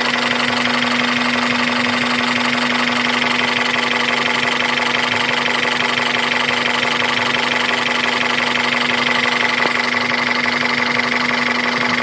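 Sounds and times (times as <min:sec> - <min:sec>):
engine idling with fast knock: 0:00.0 - 0:12.0.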